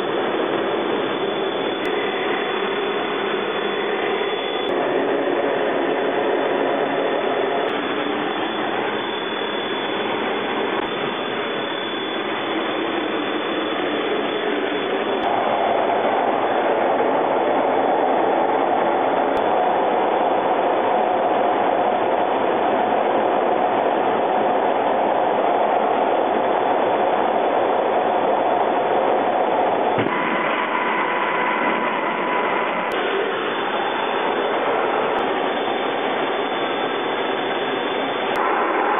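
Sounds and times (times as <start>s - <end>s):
jet engine and airflow rush: 0.0s - 38.9s.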